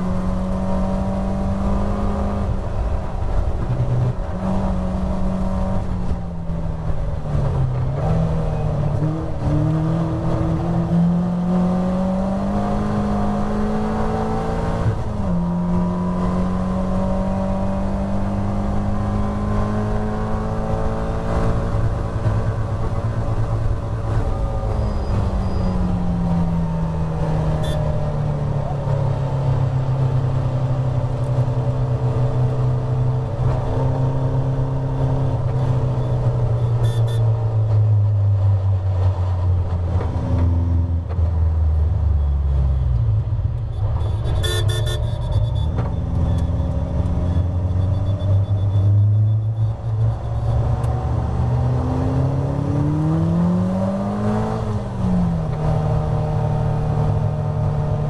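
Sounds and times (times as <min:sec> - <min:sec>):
race car engine: 0:00.0 - 0:58.0.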